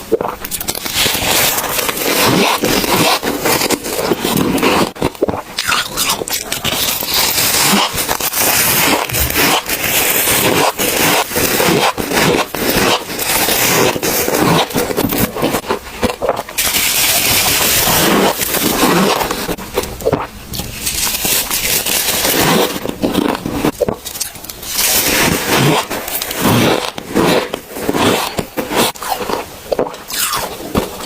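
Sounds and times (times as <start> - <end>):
frost being scraped and crunched: 0.0 - 31.0.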